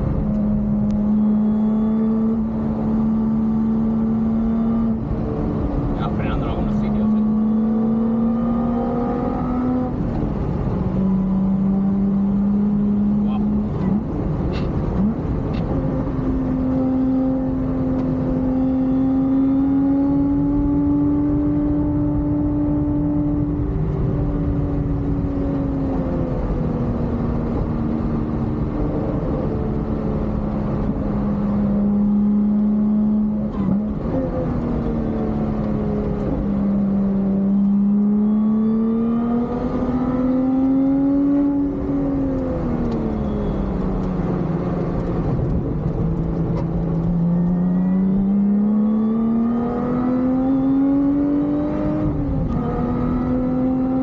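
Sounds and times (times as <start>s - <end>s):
car engine under hard load: 0.0s - 54.0s
road and wind noise: 0.0s - 54.0s.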